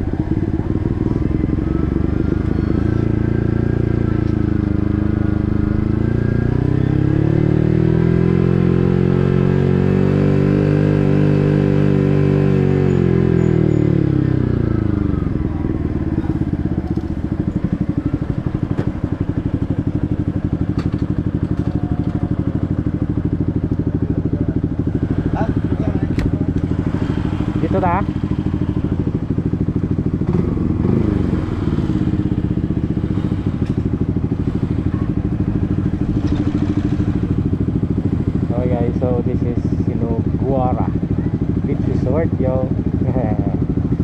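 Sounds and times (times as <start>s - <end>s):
motorcycle engine revving and idling: 0.0s - 44.0s.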